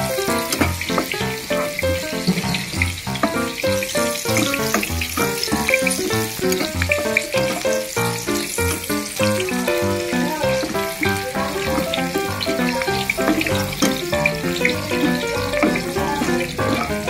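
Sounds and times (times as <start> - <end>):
background music: 0.0 - 17.0
onion and garlic sizzling in oil: 0.0 - 17.0.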